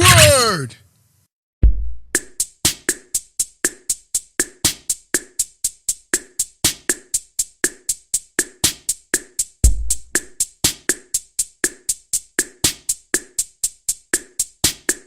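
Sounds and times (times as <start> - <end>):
drum machine wood-block clicks: 2.2 - 15.0.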